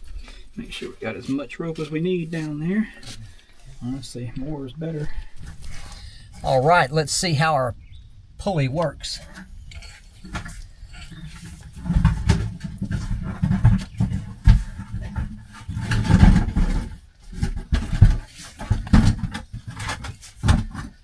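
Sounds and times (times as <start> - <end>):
load rumbling and scraping: 0.0 - 20.9.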